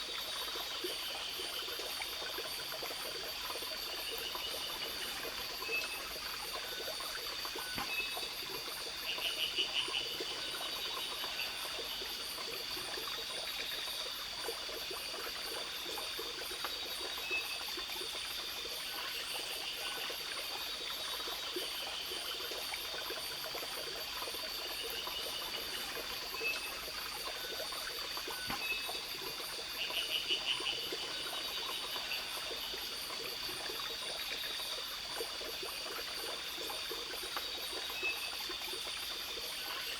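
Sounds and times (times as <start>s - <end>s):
insects trilling: 0.0s - 39.9s
stream running: 0.0s - 39.9s.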